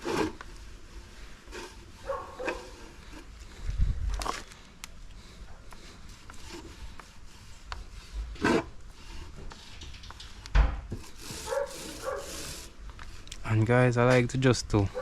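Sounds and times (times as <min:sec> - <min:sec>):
brush scraping over plywood: 0:00.0 - 0:04.0, 0:05.2 - 0:13.2.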